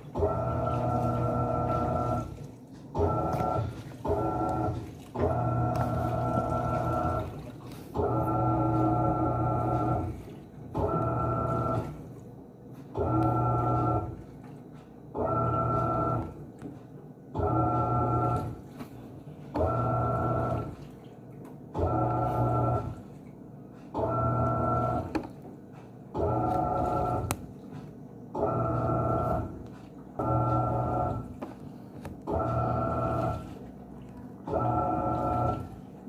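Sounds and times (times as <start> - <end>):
washing machine motor humming: 0.0 - 36.0.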